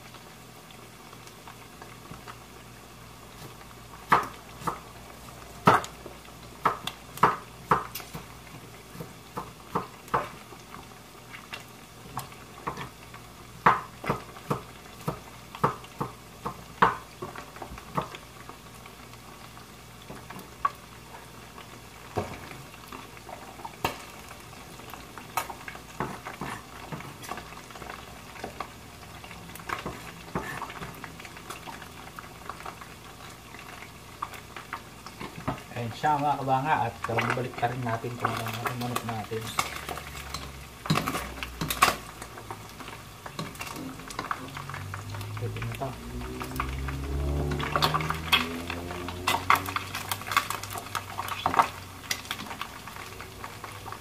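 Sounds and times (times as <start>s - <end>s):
frying sizzle: 0.0s - 54.0s.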